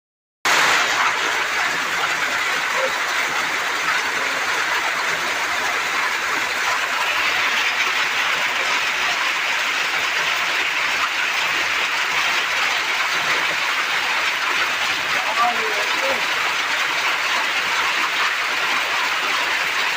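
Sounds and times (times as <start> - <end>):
hail and rain pelting: 0.5 - 19.9.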